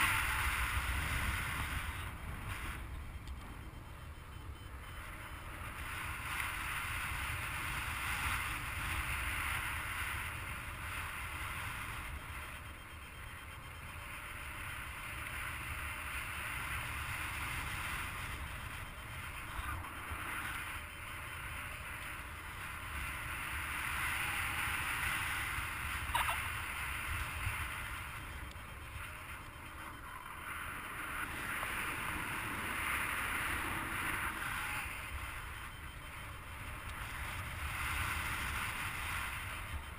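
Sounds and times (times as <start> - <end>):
wind rushing over microphone: 0.0 - 12.6, 13.9 - 39.9.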